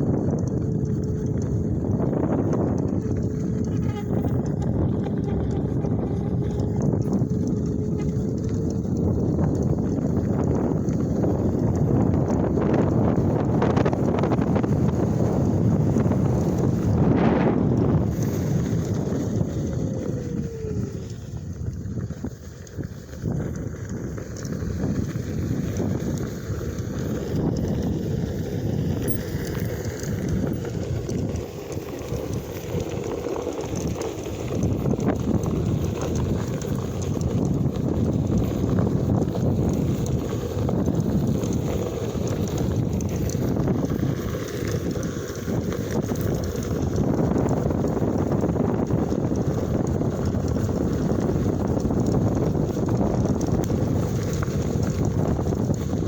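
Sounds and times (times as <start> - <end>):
tyre rumbling on dirt trail: 0.0 - 56.0
wind buffeting microphone: 0.0 - 56.0.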